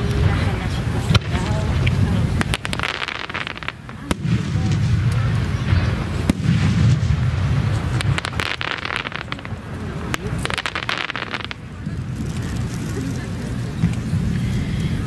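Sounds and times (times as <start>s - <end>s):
firework shells bursting: 1.0s - 13.2s
quick firework cracks: 1.0s - 14.4s.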